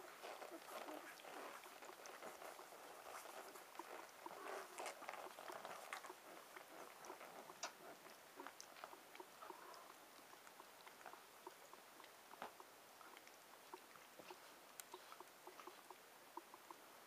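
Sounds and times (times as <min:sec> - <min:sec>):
dog licking puppy: 0:00.0 - 0:16.8.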